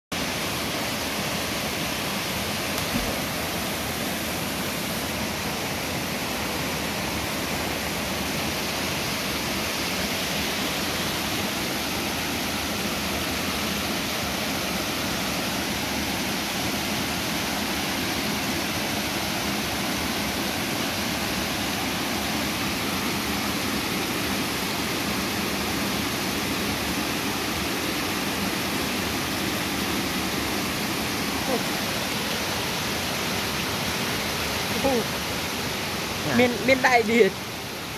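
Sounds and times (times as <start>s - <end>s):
water rushing over weir: 0.1s - 37.9s.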